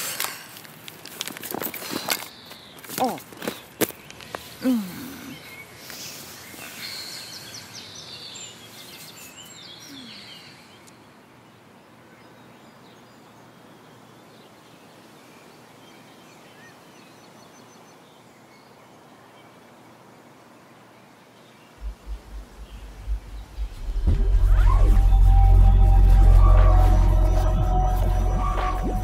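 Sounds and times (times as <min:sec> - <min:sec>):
birds chirping: 0:01.6 - 0:19.7, 0:21.6 - 0:29.0.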